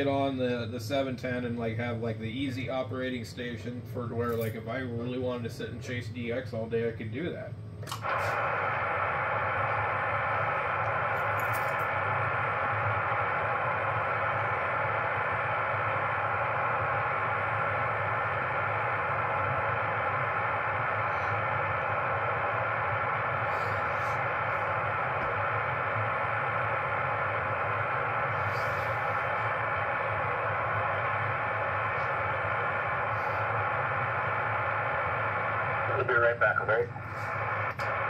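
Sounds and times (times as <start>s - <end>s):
low hum: 0.0s - 38.0s
radio static hiss: 0.0s - 38.0s.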